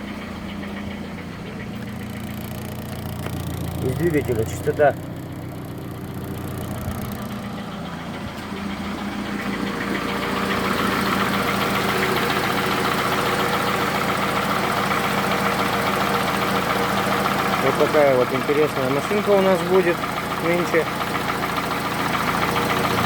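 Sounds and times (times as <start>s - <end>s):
car engine idling with knock: 0.0s - 23.0s.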